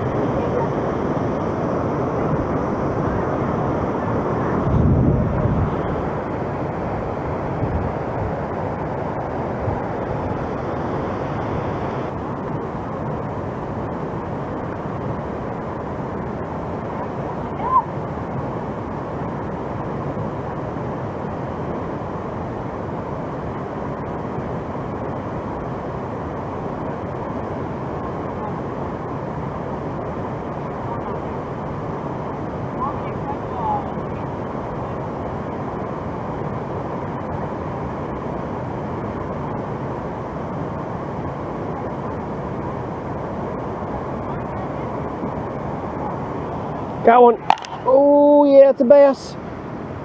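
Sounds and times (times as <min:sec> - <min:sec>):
water roaring through spillway: 0:00.0 - 0:50.0.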